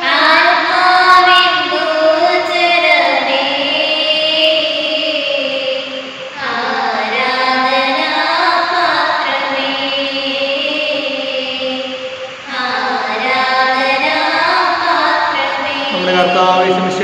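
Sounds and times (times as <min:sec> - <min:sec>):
high voice singing a hymn: 0:00.0 - 0:17.0.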